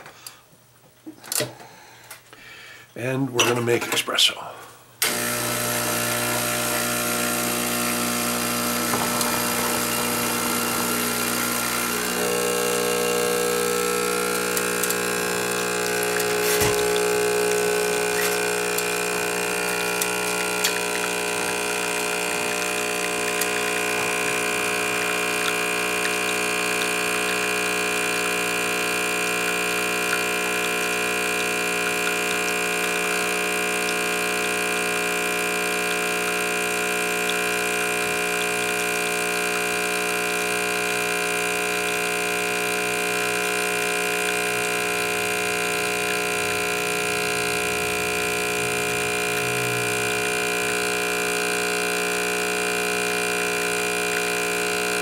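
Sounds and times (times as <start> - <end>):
espresso machine pump humming: 5.0 - 55.0.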